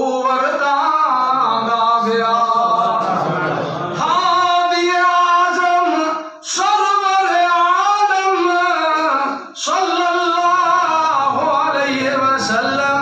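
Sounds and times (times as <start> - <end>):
man singing devotional verse: 0.0 - 13.0.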